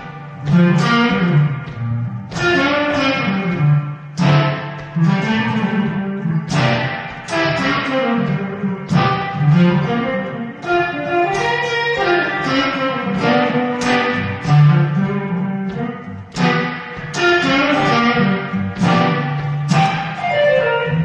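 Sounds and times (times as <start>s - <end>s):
clean electric guitar melody: 0.0s - 21.0s.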